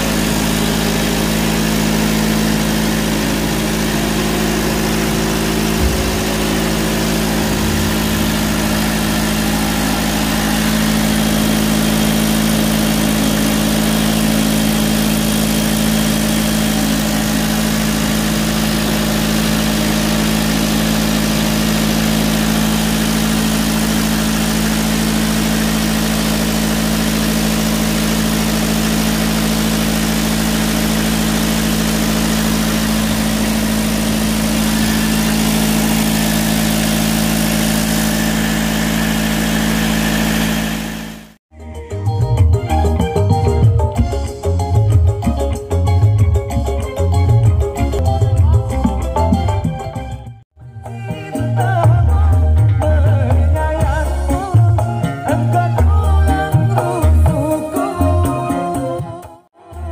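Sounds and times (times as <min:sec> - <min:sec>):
diesel engine humming steadily: 0:00.0 - 0:58.8.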